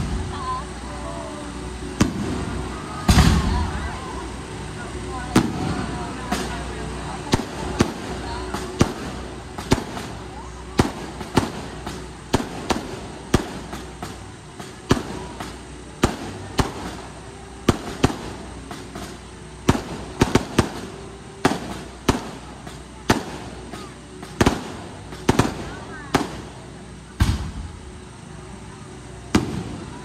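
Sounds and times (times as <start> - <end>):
clusters of firework cracks: 2.0 - 4.0, 5.3 - 27.7, 29.3 - 29.9
fireworks bangs: 2.0 - 4.0, 5.3 - 26.6, 27.2 - 27.8, 29.3 - 30.0.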